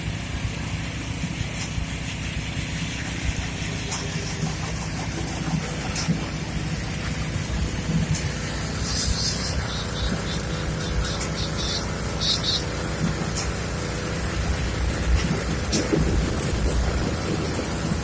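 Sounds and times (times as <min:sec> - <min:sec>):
heavy machinery engine rumbling: 0:00.0 - 0:18.0.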